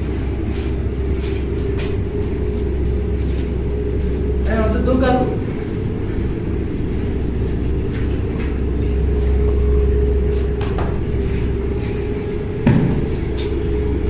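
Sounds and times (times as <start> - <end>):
faint held hum: 0.0 - 14.0
steady low rumble: 0.0 - 14.0.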